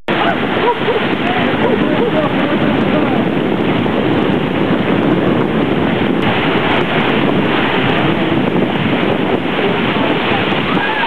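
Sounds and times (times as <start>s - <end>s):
ocean surf breaking: 0.1s - 11.0s
wind buffeting microphone: 0.1s - 11.0s.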